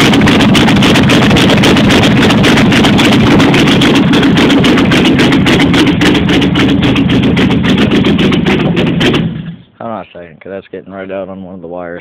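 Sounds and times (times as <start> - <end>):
car engine running loudly: 0.0 - 9.8.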